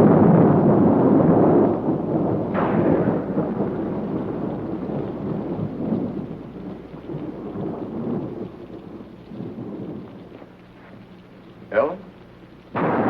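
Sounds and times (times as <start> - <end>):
sharp thunder crack: 0.0 - 13.0
steady rain: 0.0 - 13.0
thunder rumbling: 0.0 - 13.0.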